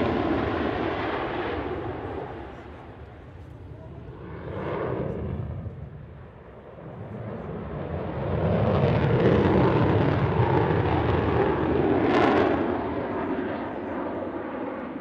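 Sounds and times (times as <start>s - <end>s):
jet engine in afterburner: 0.0s - 15.0s.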